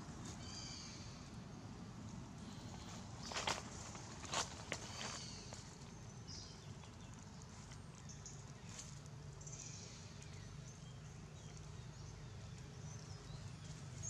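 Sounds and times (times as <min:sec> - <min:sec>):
outdoor background hum: 0:00.0 - 0:14.0
animals rustling dry leaves: 0:02.4 - 0:14.0.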